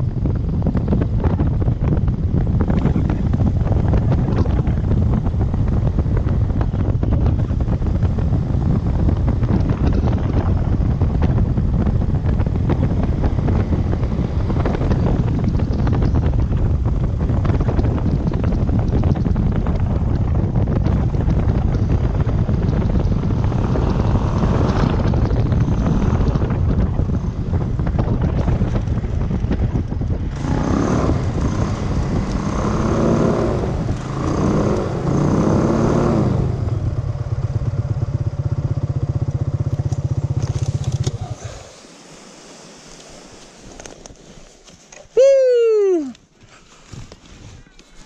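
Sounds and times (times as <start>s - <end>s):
small aircraft engine: 0.0s - 44.2s
heavy wind noise: 0.0s - 48.0s.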